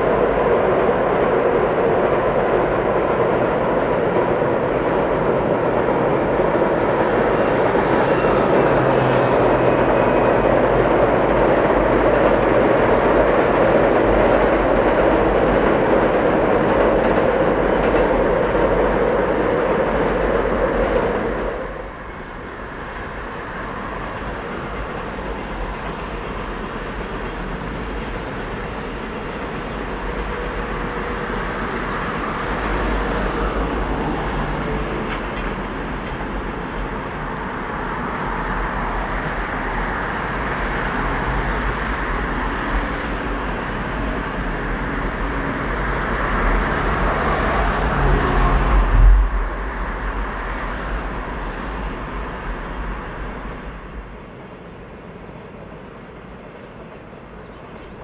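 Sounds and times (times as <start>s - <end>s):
freight train rumbling: 0.0s - 58.0s
passenger train on steel bridge: 0.0s - 58.0s.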